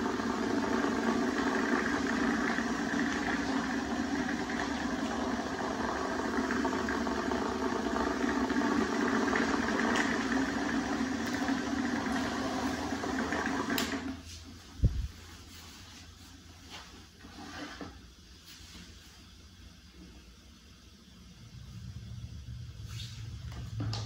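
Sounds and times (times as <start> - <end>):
desk fan running: 0.0 - 24.0.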